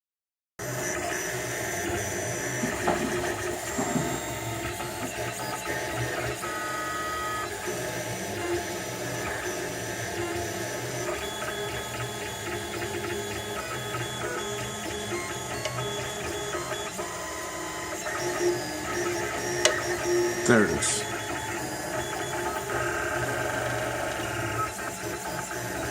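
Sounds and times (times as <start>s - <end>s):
printer stepper motors whining: 0.6s - 25.9s.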